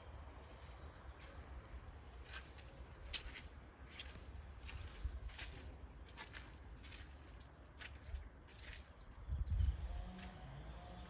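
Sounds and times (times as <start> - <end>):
footsteps on woodland path: 0.6 - 10.4.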